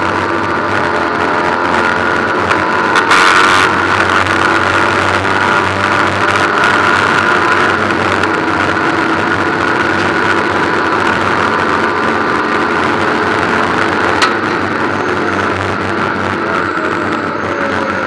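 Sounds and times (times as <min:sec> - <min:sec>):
race car engine running: 0:00.0 - 0:18.0.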